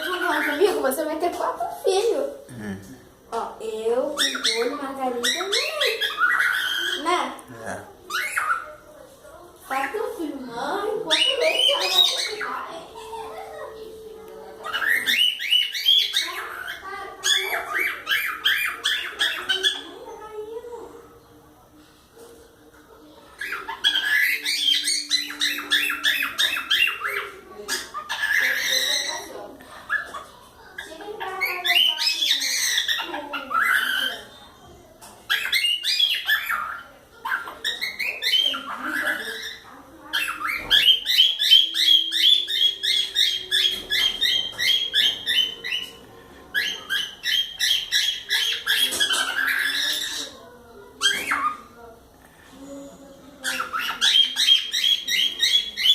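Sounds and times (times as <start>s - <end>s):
cockatiels chirping: 0.0s - 0.8s, 4.1s - 7.2s, 8.0s - 8.9s, 10.9s - 13.9s, 14.5s - 20.4s, 23.3s - 51.8s, 53.2s - 55.9s.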